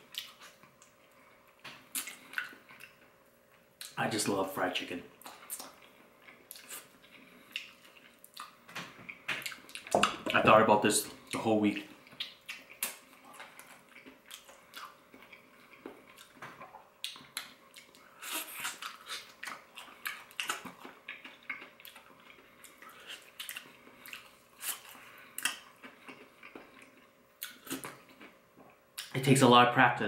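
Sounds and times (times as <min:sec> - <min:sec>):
person chewing crispy chicken: 0:00.0 - 0:04.0, 0:05.2 - 0:09.9, 0:12.0 - 0:29.1.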